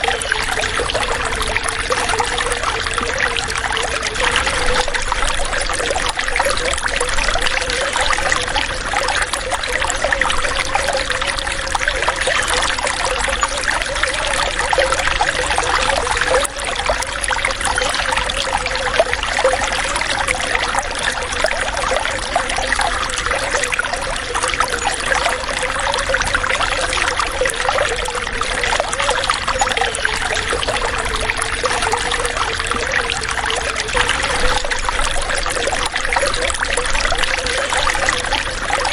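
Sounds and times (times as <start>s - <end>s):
running water gurgling: 0.0s - 38.9s.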